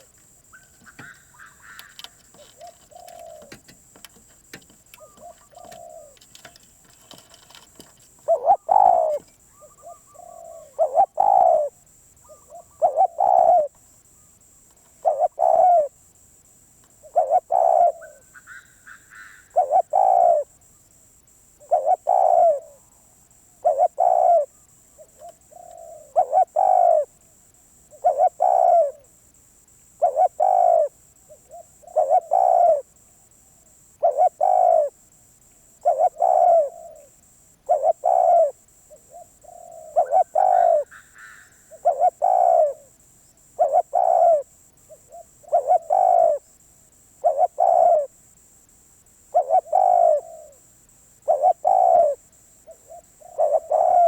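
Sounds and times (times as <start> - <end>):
dove cooing: 0.0 - 13.8, 14.9 - 16.0, 17.0 - 20.6, 21.6 - 23.0, 23.6 - 27.2, 27.8 - 29.1, 30.0 - 33.0, 33.9 - 35.0, 35.8 - 43.0, 43.6 - 46.5, 47.2 - 48.1, 49.3 - 50.6, 51.2 - 54.0.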